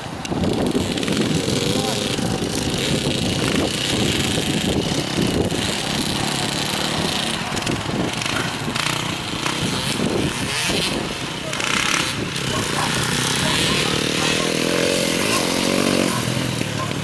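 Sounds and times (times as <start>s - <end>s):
motocross bike engine: 0.0s - 17.0s.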